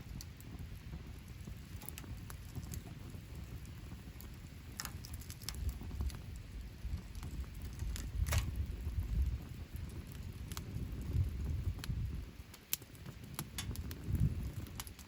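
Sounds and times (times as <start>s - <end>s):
campfire crackling pops: 0.0s - 15.0s
low rumble of fire: 0.0s - 15.0s.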